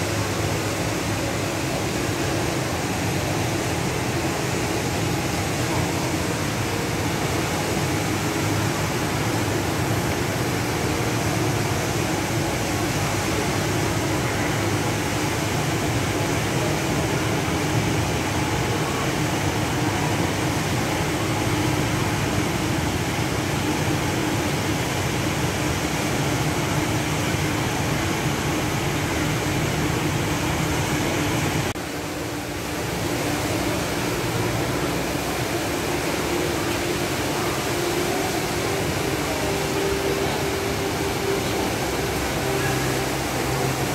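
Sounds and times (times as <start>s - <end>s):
indoor waterfall roaring: 0.0s - 43.9s.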